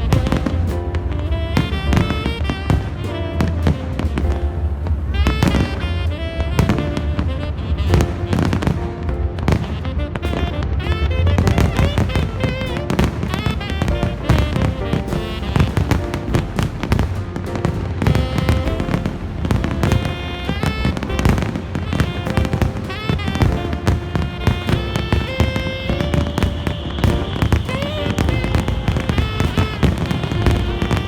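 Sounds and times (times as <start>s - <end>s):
fireworks bursting: 0.0s - 31.0s
loud music: 0.0s - 31.0s.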